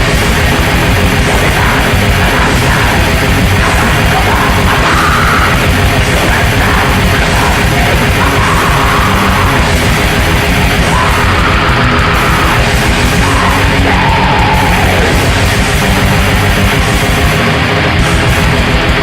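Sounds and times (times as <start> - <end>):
distorted guitars: 0.0 - 19.0
fast dense drumming: 0.0 - 19.0.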